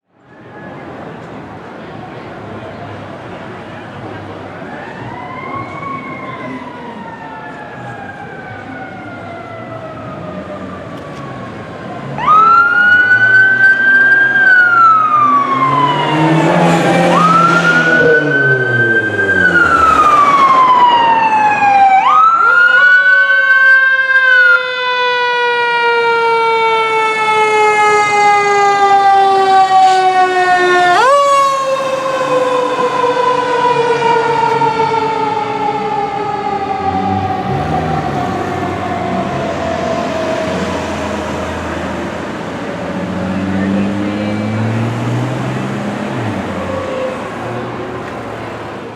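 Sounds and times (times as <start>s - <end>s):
engine and road noise: 0.0s - 48.9s
fire engine siren: 0.1s - 48.9s.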